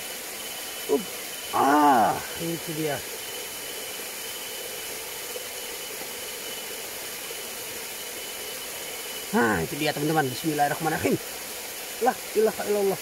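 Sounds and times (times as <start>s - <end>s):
faint high steady tone: 0.0s - 11.3s
steady background hiss: 0.0s - 13.0s.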